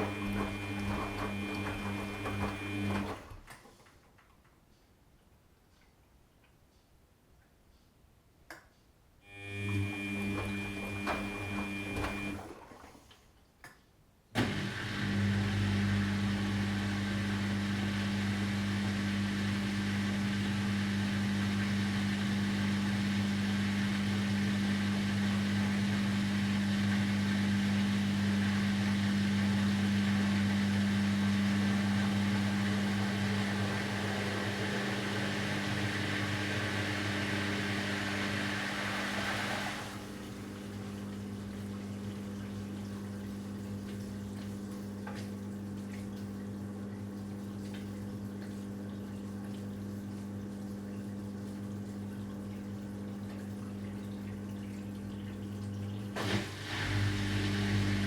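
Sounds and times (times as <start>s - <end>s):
washing machine motor hum: 0.0s - 3.6s, 9.2s - 13.1s, 14.4s - 58.0s.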